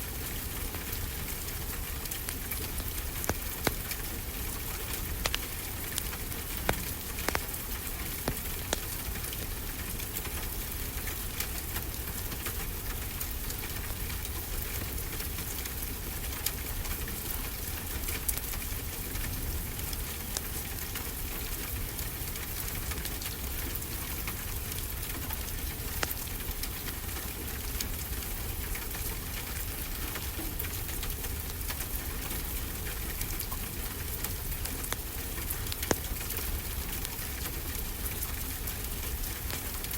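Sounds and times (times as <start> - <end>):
wood fire crackling and popping: 0.1 - 11.7, 16.4 - 39.9.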